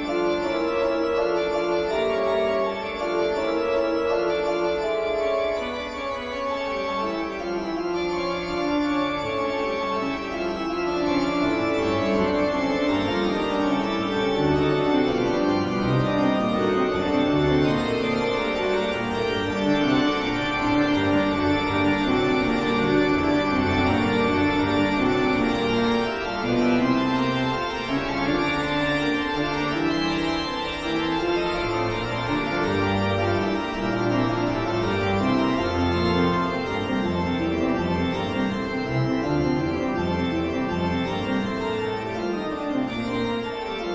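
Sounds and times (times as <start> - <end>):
eerie organ music: 0.0 - 43.9.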